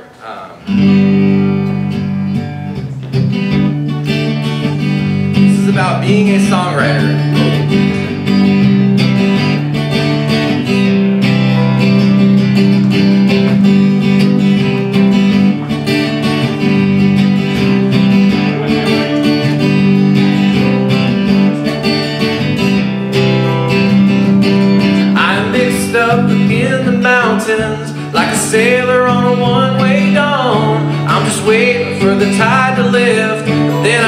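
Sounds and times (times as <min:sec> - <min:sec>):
acoustic guitars strumming chords: 0:00.0 - 0:34.0.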